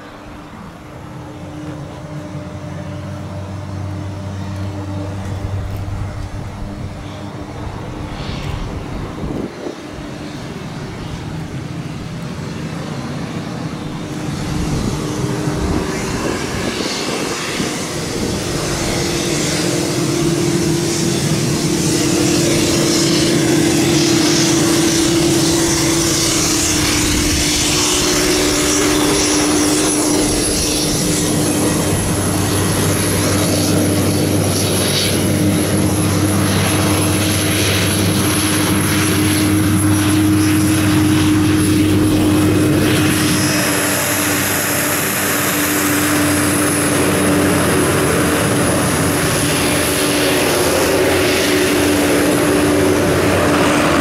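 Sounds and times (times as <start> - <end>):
high turbine whine: 0.0 - 54.0
turboprop engines humming: 0.0 - 54.0
hissing rush: 5.9 - 54.0.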